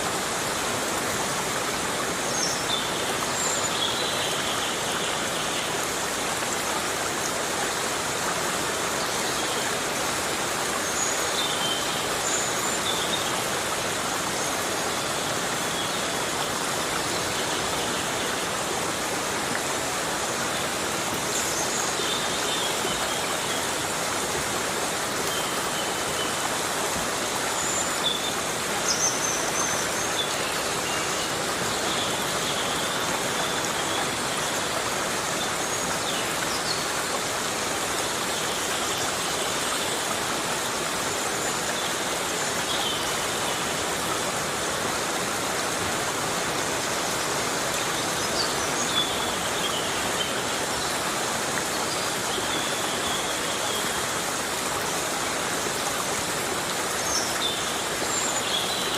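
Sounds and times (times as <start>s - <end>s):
heavy rain in a forest: 0.0s - 58.9s.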